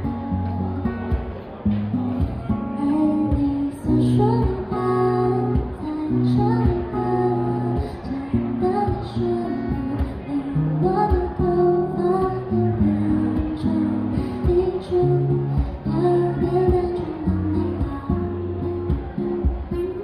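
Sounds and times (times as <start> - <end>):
acoustic guitar strumming: 0.0 - 20.0
person singing: 2.7 - 18.8.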